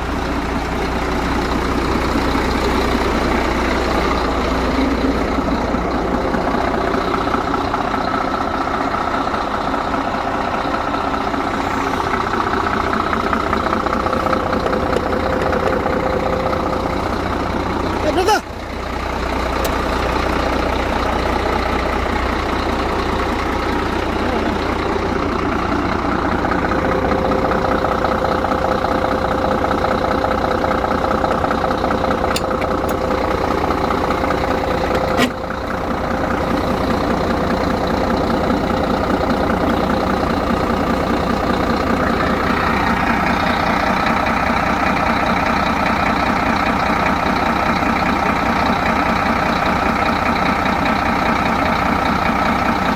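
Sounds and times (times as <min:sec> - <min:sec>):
diesel truck engine idling: 0:00.0 - 0:52.9.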